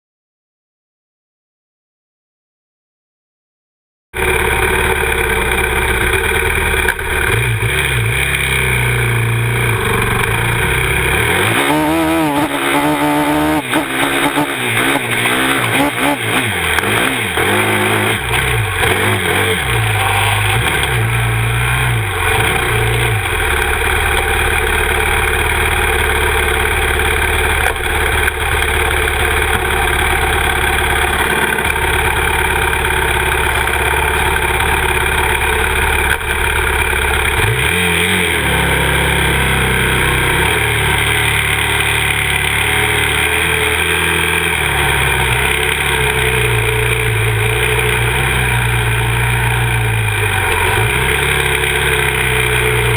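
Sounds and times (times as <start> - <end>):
quad bike engine revving: 4.2 - 52.9.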